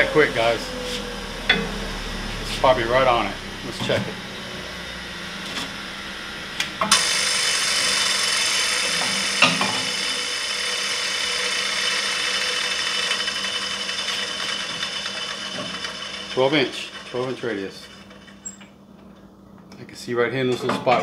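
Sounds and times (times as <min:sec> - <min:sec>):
machine high hissing whir: 0:00.0 - 0:18.6.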